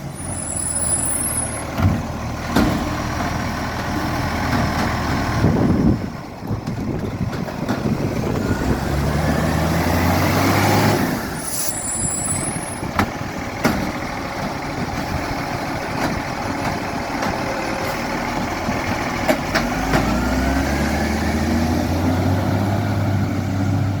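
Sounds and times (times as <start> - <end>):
garbage truck engine revving: 0.0 - 24.0.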